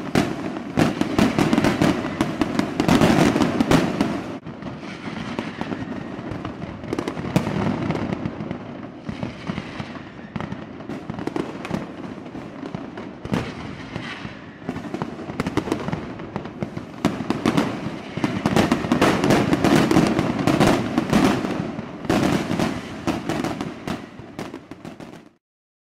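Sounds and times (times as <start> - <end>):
fireworks bangs and crackling: 0.0 - 25.4.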